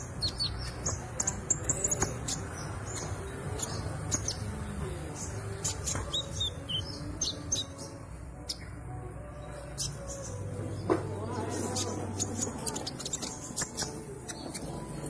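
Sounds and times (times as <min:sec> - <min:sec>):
songbird chirping and whistling: 0:00.0 - 0:15.0.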